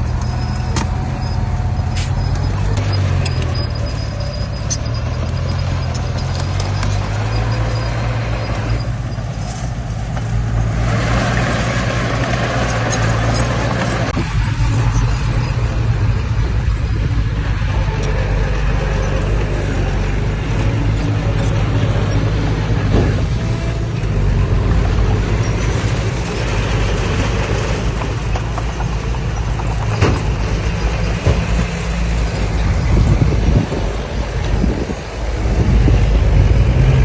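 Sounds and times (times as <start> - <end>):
heavy diesel engine running: 0.0 - 37.0
rushing noise: 0.0 - 37.0.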